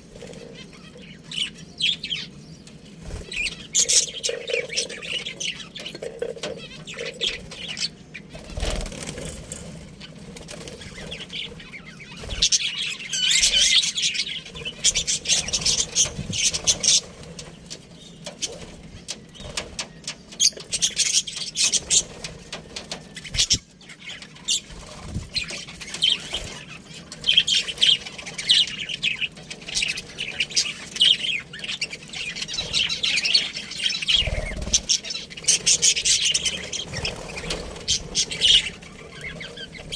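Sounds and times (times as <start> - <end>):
budgerigars chirping: 0.0 - 22.2, 23.1 - 39.9.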